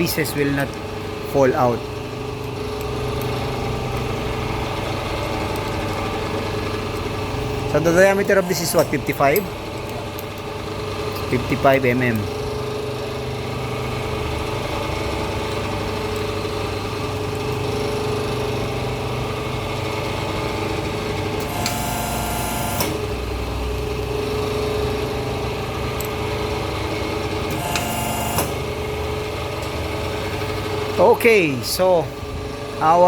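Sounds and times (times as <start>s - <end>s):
machine motor hum: 0.0s - 33.0s.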